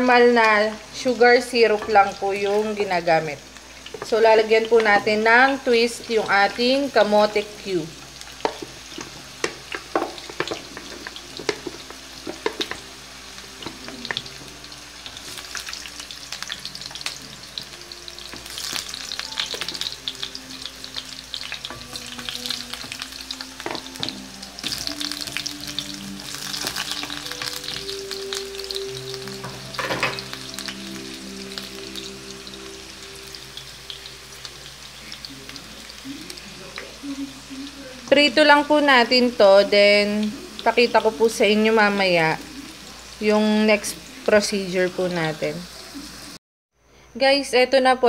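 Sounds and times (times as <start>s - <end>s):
food sizzling in hot oil: 0.0s - 46.4s.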